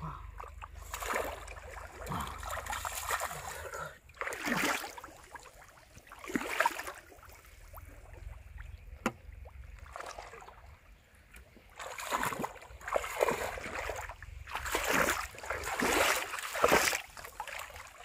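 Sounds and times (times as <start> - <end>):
person wading through splashing water: 0.1 - 8.4, 9.4 - 10.8, 11.5 - 18.0.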